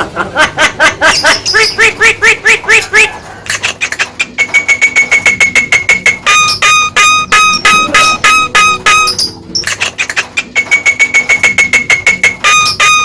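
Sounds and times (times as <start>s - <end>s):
myna bird calling: 0.4s - 13.0s.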